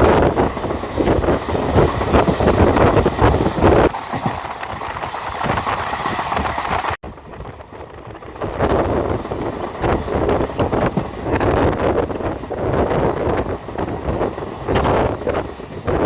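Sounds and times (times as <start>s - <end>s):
train rumbling on track: 0.0s - 16.0s
wind buffeting microphone: 0.0s - 16.0s.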